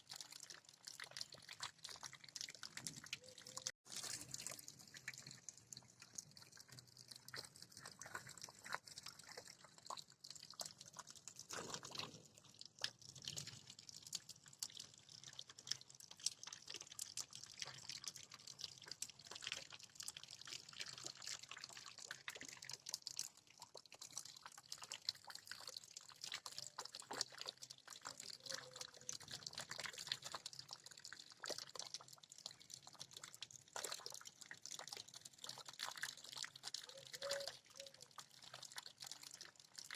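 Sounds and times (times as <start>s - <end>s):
rain drips ticking: 0.0s - 39.9s.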